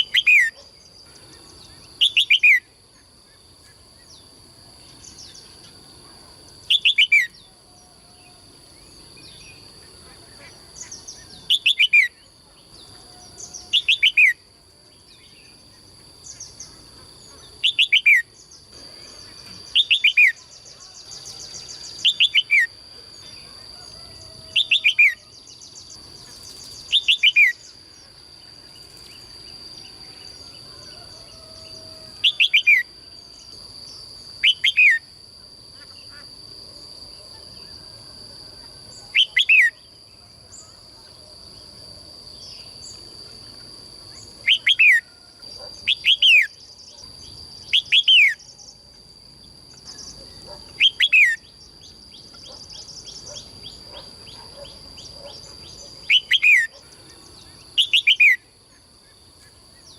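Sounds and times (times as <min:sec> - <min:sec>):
caged songbird calling: 0:00.0 - 0:05.8, 0:06.5 - 0:35.1, 0:38.6 - 0:41.2, 0:44.1 - 0:48.8, 0:49.5 - 0:58.5
steady high-pitched whine: 0:00.0 - 0:59.9.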